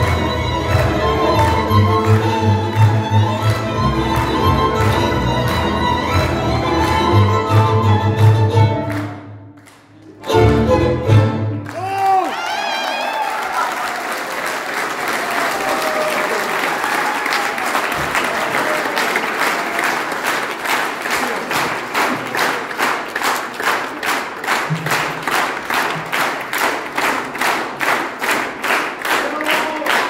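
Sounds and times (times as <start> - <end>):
audience clapping: 0.0 - 10.7, 11.5 - 30.0.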